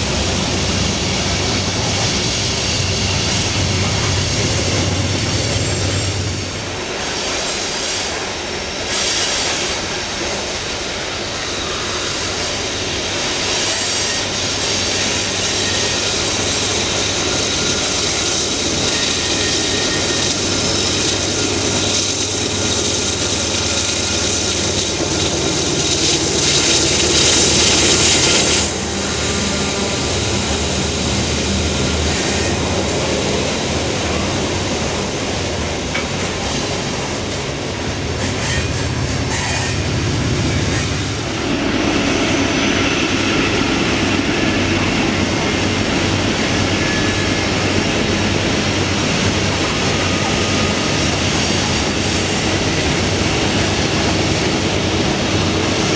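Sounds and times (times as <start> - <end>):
loud high-pitched squeal: 0.0 - 10.4, 11.2 - 33.2, 38.0 - 45.0, 45.7 - 55.8
diesel locomotive engine: 0.0 - 55.9
train wheels rolling and squealing: 0.0 - 55.9.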